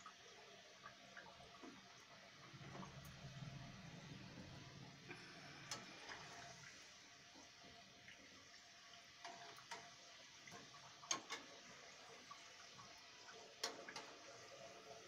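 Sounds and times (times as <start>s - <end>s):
food deep-frying in oil: 0.0s - 15.0s.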